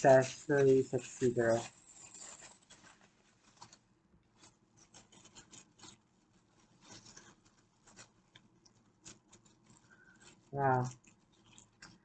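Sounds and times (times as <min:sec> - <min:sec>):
bag rustling: 0:00.2 - 0:12.0.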